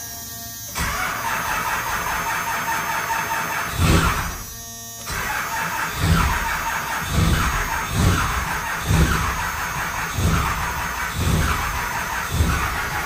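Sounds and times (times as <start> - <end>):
diesel engine cranking: 0.8 - 13.0.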